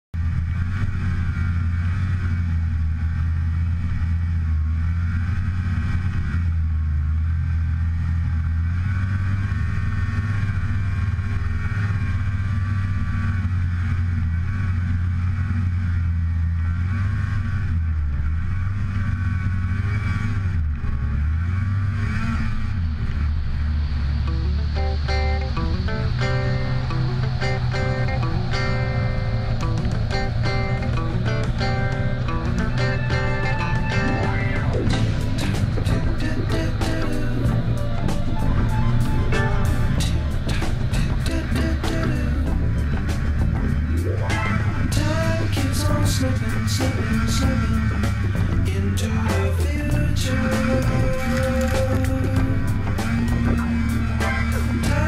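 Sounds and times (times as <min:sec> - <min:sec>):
snowmobile engine running: 0:00.2 - 0:55.0.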